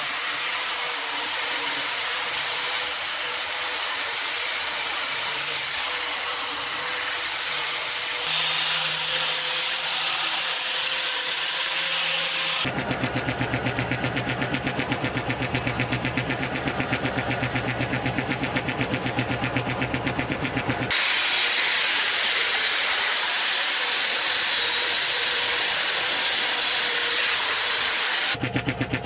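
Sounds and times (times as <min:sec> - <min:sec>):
power tool whining: 0:00.0 - 0:29.0
pulsing motor: 0:00.0 - 0:29.0.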